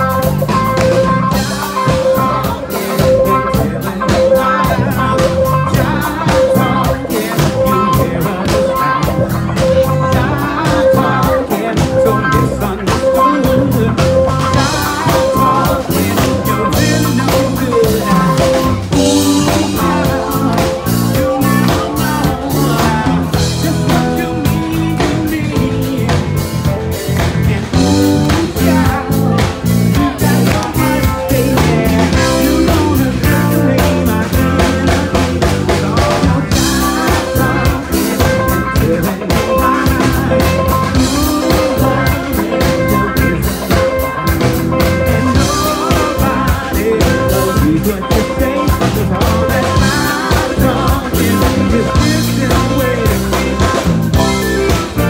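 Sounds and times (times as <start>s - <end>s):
drum kit: 0.0s - 55.0s
guitar: 0.0s - 55.0s
live band playing: 0.0s - 55.0s
person singing: 0.0s - 55.0s.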